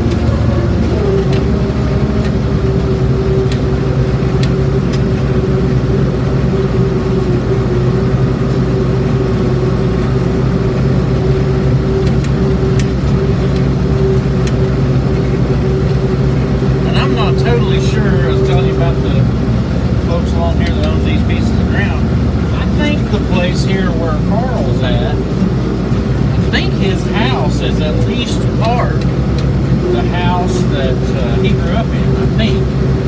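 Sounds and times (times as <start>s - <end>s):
constant machine whine: 0.0s - 33.0s
tractor diesel engine droning: 0.0s - 33.0s.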